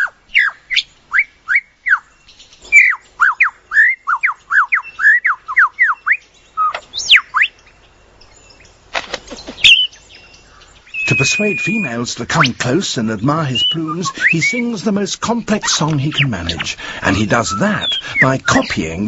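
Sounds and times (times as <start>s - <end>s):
lyrebird whistled song: 0.0s - 19.0s.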